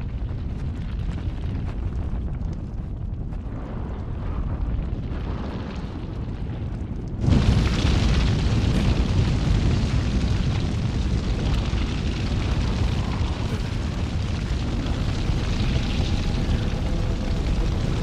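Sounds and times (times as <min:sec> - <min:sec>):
explosion: 0:00.0 - 0:18.0
fire crackling and rumbling: 0:00.0 - 0:18.0
low rumble: 0:00.0 - 0:18.0.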